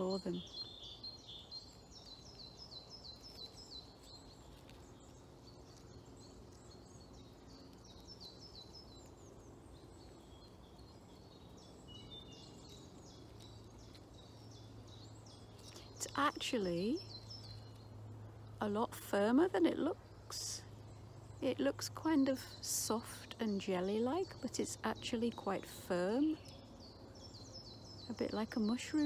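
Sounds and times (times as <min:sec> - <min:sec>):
faint songbird song: 0:00.0 - 0:29.0.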